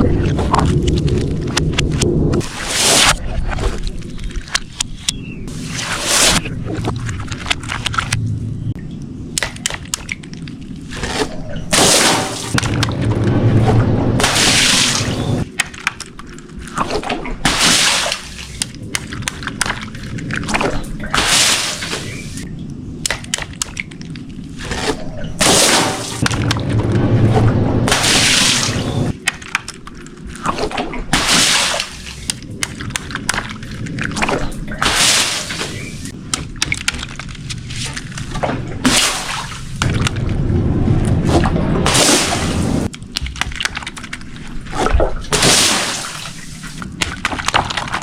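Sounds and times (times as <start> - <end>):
water sloshing and splashing: 0.0 - 8.8, 9.4 - 48.0.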